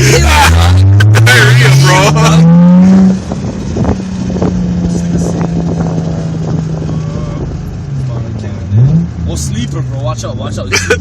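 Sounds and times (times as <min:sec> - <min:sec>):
car engine revving through exhaust: 0:00.0 - 0:10.5.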